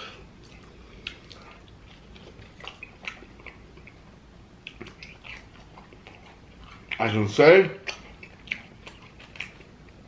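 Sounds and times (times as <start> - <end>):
person chewing: 0.0 - 10.0
wet mouth clicks and smacks: 0.4 - 4.0, 4.6 - 7.1, 7.8 - 10.0.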